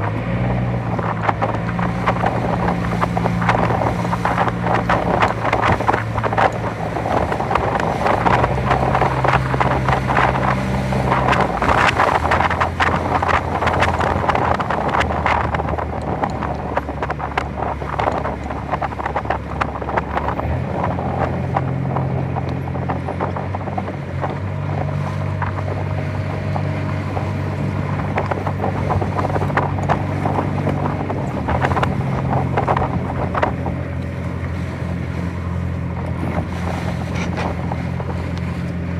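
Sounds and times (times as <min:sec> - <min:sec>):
water rushing past boat: 0:00.0 - 0:38.9
wind buffeting microphone: 0:00.0 - 0:38.9.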